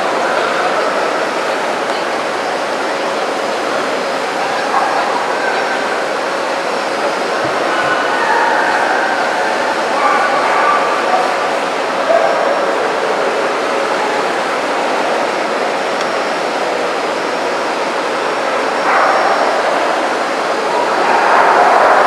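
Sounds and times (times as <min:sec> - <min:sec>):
crowd hubbub in echoing hall: 0:00.0 - 0:22.0.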